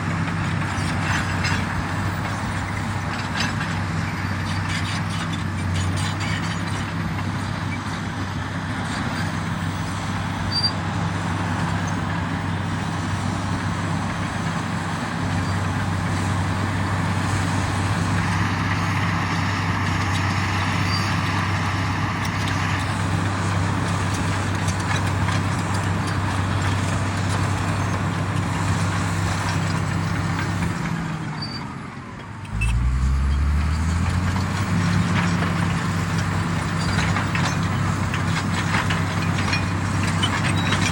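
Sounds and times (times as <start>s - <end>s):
bulldozer diesel engine revving: 0.0s - 40.9s.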